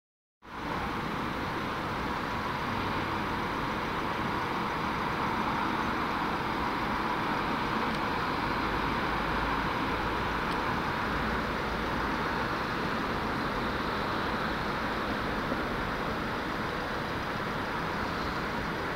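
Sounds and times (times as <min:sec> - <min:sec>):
vehicle rumble and hiss: 0:00.4 - 0:18.9.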